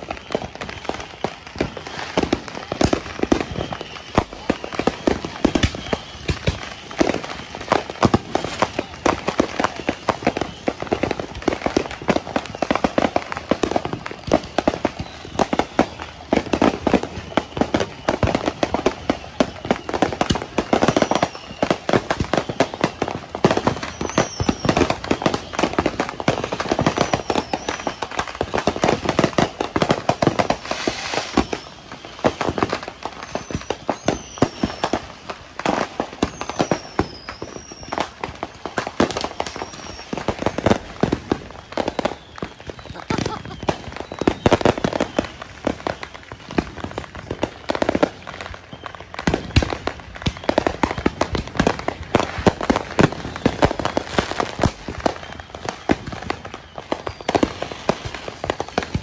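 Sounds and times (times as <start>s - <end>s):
falling firework whistles: 0.0s - 59.0s
firecracker pops and crackles: 0.0s - 59.0s
firework bangs: 0.0s - 59.0s.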